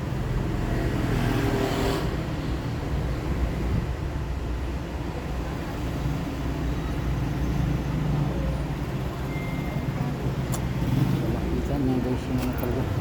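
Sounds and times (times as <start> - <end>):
low rumble of passing traffic: 0.0 - 13.0.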